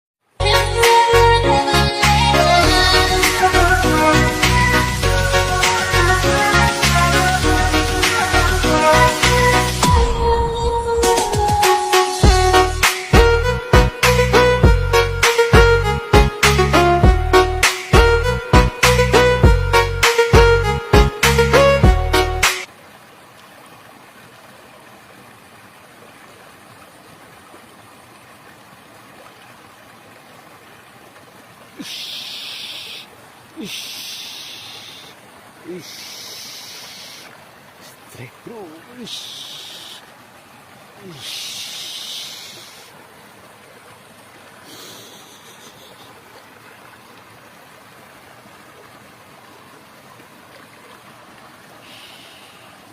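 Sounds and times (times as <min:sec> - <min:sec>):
flowing water rushing: 0:00.2 - 0:52.9.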